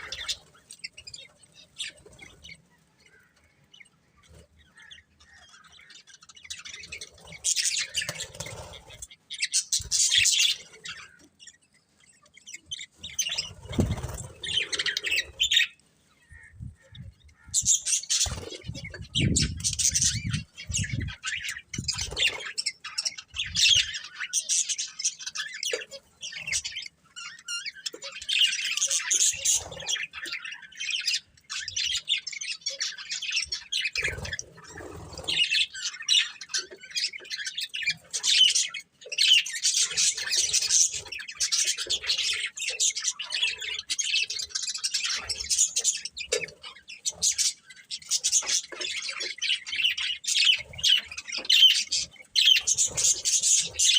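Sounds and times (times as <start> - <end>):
budgerigars chirping: 0.0 - 53.9.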